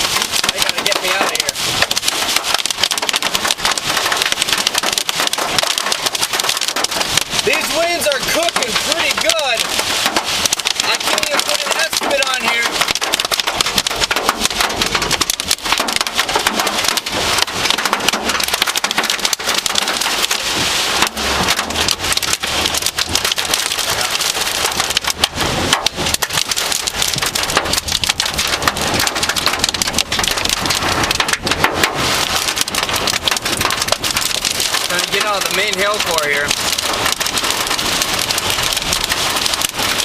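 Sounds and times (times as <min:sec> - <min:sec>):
hailstones clicking: 0:00.0 - 0:40.0
heavy rain drumming on vehicle: 0:00.0 - 0:40.0.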